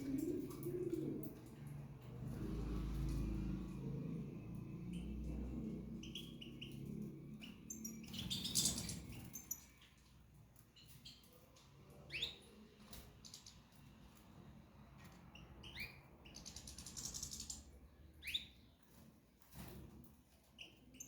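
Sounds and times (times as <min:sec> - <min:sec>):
small birds chirping: 0:00.0 - 0:19.1, 0:20.2 - 0:21.0.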